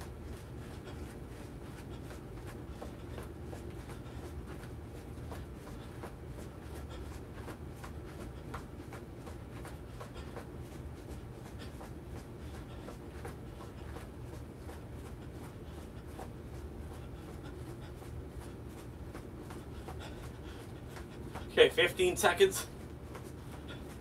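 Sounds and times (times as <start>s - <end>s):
light rhythmic footfalls: 0.0s - 24.0s
steady low hum: 0.0s - 24.0s.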